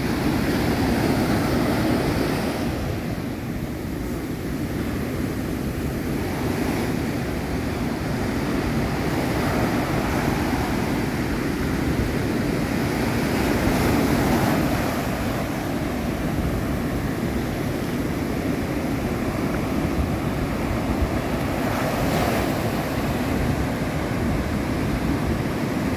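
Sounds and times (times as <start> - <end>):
ocean surf washing in: 0.0 - 25.9
wind buffeting microphone: 0.0 - 25.9.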